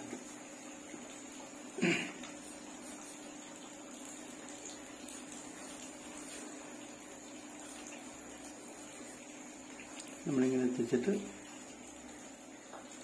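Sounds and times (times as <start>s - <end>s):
room tone hiss: 0.0s - 13.0s.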